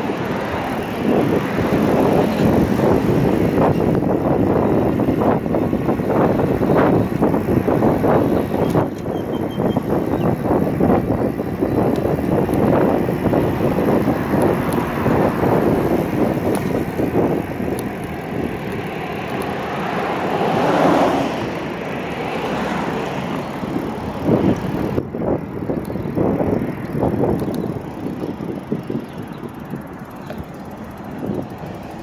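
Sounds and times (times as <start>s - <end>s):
tyre and road noise: 0.0s - 32.0s
wind buffeting microphone: 0.0s - 32.0s.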